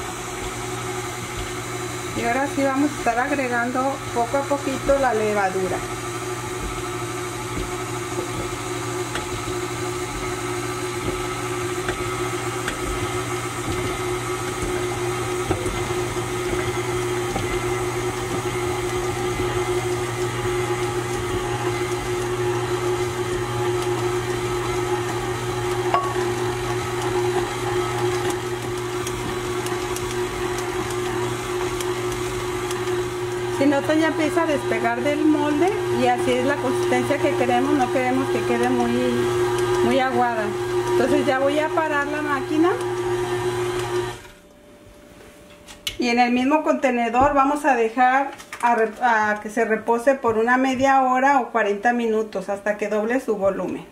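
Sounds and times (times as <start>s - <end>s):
stand mixer motor humming: 0.0s - 44.3s.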